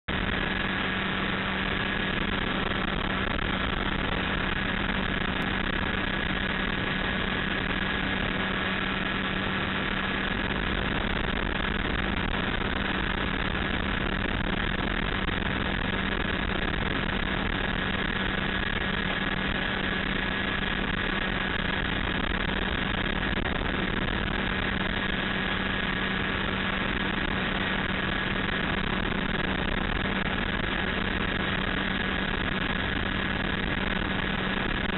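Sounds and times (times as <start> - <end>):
high whine: 0.0 - 34.9
aircraft engine and propeller drone: 0.1 - 34.9.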